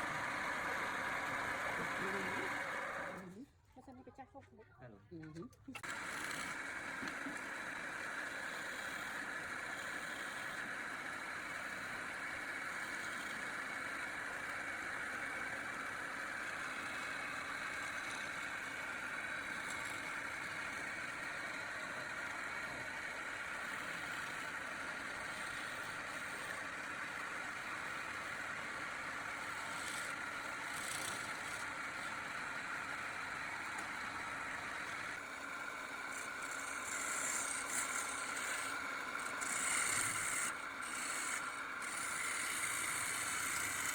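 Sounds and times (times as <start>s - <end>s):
machine running steadily: 0.0s - 3.4s, 5.2s - 43.9s.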